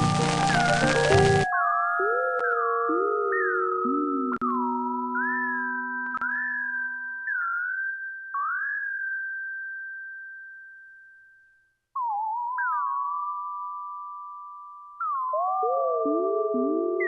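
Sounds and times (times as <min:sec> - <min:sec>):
electronic whistle-like tones: 0:00.0 - 0:11.3, 0:12.0 - 0:17.0.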